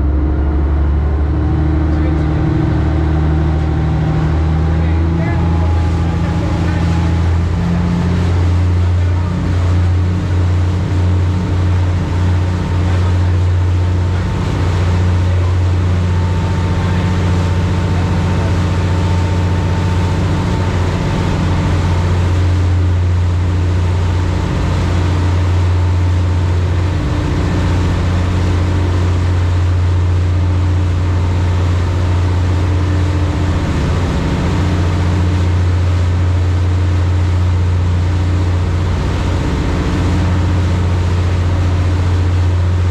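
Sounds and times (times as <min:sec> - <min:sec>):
boat engines droning: 0:00.0 - 0:42.9
rushing water noise: 0:00.0 - 0:42.9.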